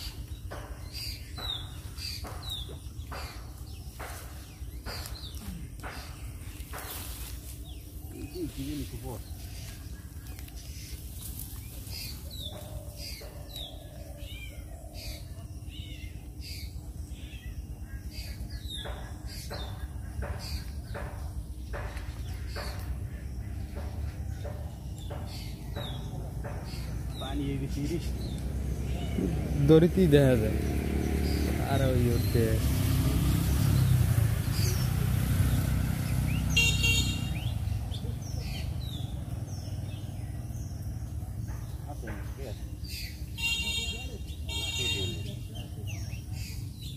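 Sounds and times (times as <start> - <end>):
vehicle passing with low rumble: 0.0 - 43.4
birds chirping: 0.0 - 46.9.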